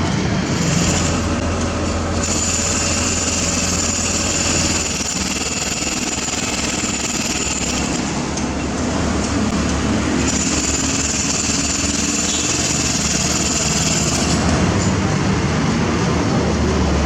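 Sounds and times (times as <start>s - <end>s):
diesel machinery engine hum: 0.0s - 5.2s, 7.6s - 17.0s.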